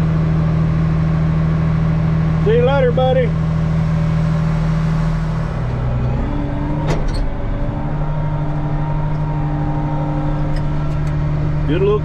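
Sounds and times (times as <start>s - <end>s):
combine harvester hum and whine: 0.0s - 12.0s.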